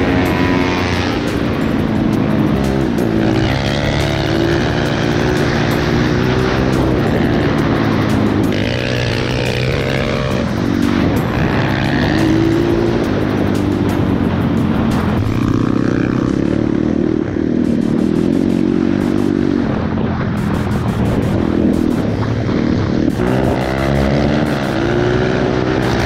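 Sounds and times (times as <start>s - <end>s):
motorbike engine running: 0.0s - 26.0s.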